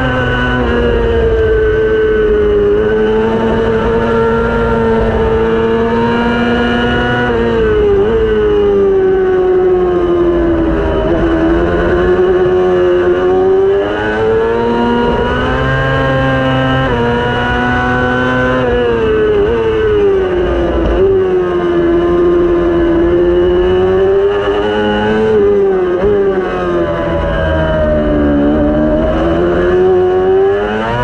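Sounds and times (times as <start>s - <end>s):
racing motorcycle engine high revs: 0.0s - 31.0s.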